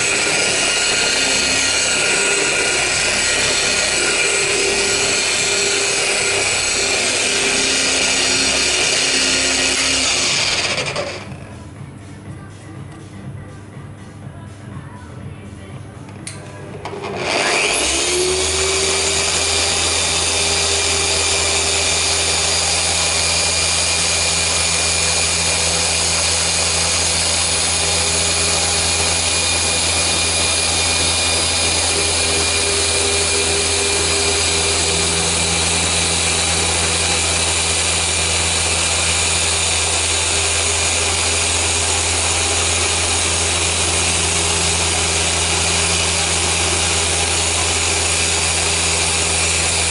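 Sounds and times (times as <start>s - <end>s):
orbital polisher running: 0.0s - 11.5s, 16.8s - 49.9s.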